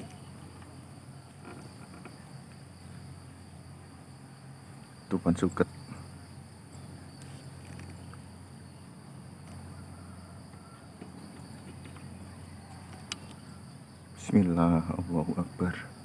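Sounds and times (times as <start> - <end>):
insect chirring: 0.0 - 16.0
low rural background hum: 0.0 - 16.0.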